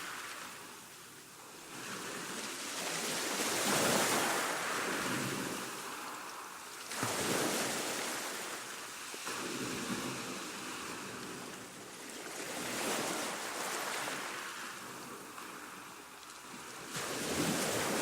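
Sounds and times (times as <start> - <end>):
gentle waves on a shore: 0.0 - 18.0.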